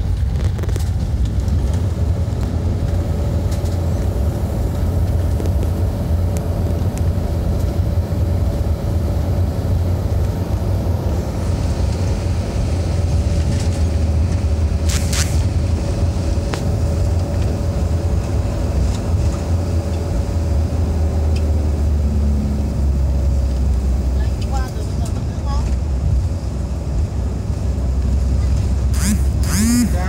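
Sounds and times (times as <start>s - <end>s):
vehicle engine and tyres rumbling: 0.0s - 30.0s.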